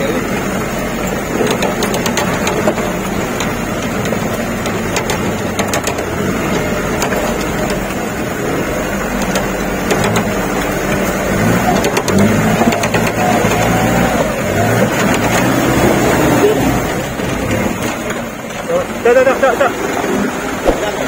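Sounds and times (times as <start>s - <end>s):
off-road vehicle engine running: 0.0s - 21.0s
vehicle cab rattling: 0.0s - 21.0s
water washing against vehicle: 0.0s - 21.0s.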